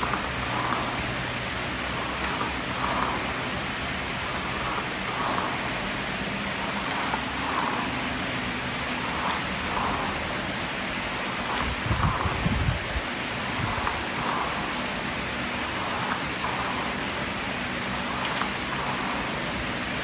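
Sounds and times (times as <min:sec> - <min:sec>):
rowing machine fan whooshing: 0:00.0 - 0:20.0.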